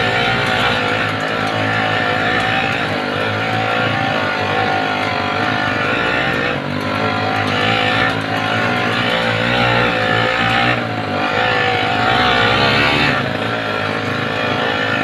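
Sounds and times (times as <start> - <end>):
small engine revving hard: 0.0 - 15.0.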